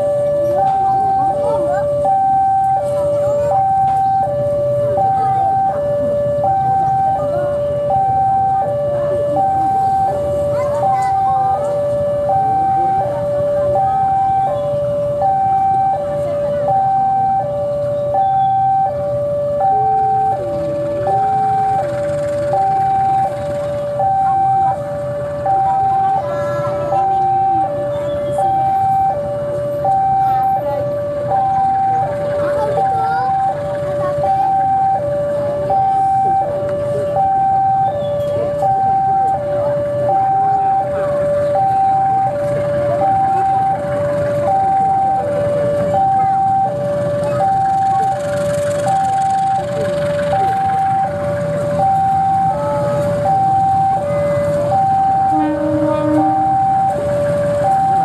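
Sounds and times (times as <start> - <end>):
locomotive engine rumbling: 0.0 - 58.0
two-tone warning alarm: 0.0 - 58.0.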